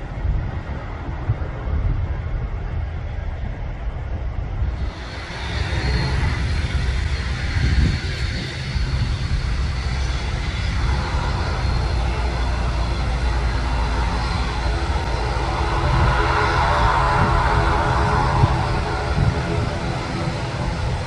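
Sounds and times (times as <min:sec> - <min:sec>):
airliner engines roaring: 0:00.0 - 0:21.0
low rumble: 0:00.0 - 0:21.0.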